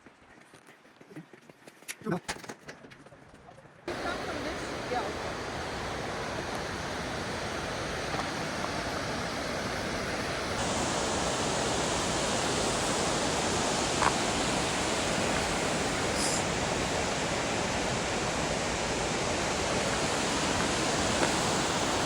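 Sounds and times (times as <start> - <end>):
waterfall rushing water: 3.9 - 22.0.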